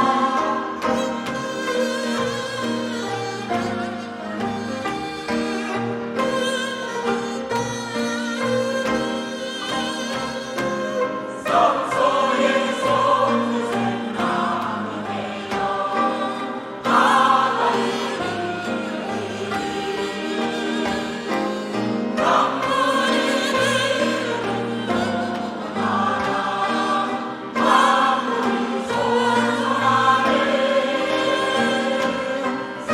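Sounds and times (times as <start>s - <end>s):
choir singing a hymn: 0.0s - 7.6s, 8.4s - 32.9s
instrumental accompaniment: 0.0s - 32.9s.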